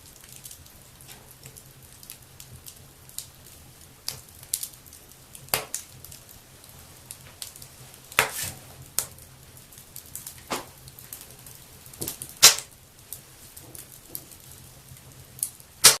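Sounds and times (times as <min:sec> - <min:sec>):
faint fire hiss: 0:00.0 - 0:16.0
wood fire crackling and popping: 0:00.0 - 0:16.0.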